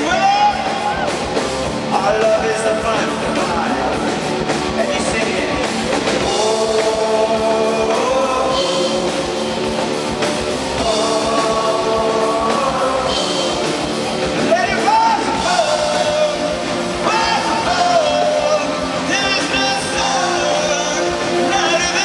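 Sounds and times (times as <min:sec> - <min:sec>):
rock band playing live: 0:00.0 - 0:22.0
person singing: 0:01.8 - 0:22.0.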